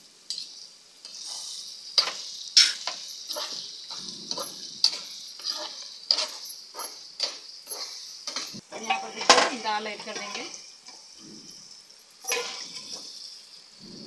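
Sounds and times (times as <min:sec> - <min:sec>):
food sizzling in oil: 0:00.0 - 0:14.0
spoon stirring and scraping: 0:00.3 - 0:14.0.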